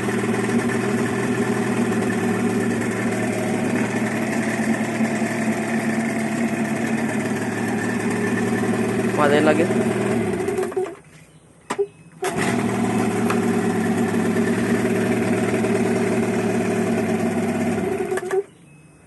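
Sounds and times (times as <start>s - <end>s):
outboard motor pull-start: 0.0s - 11.1s, 11.8s - 18.6s
outboard motor running: 0.0s - 11.1s, 12.2s - 18.5s.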